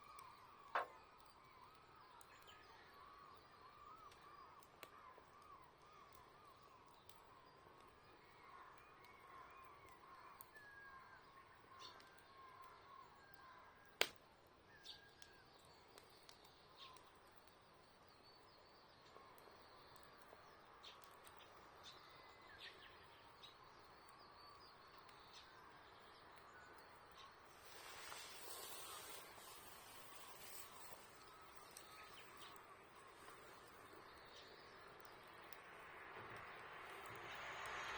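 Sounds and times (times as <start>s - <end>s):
campfire crackling: 0.0s - 37.9s
faint birds chirping: 0.0s - 37.9s.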